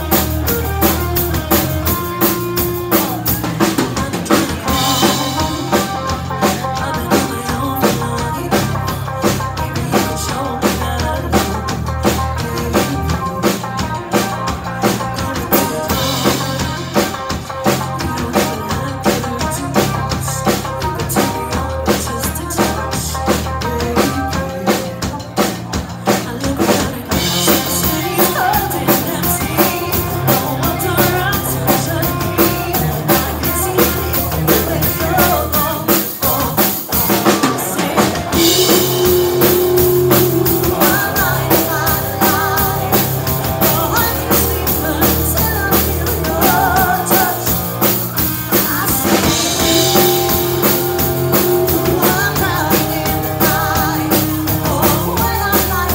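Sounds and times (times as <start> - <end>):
bass guitar: 0.0 - 55.9
drum kit beat: 0.0 - 55.9
electric guitar: 0.0 - 55.9
woman singing: 2.9 - 55.9.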